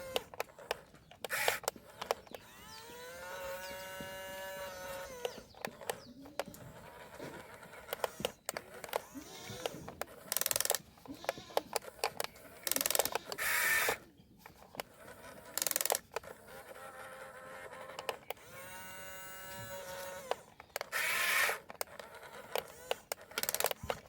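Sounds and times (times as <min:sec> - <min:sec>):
steady motor whine: 0:00.0 - 0:10.3, 0:14.9 - 0:24.0
toy excavator motors whirring: 0:00.0 - 0:24.0.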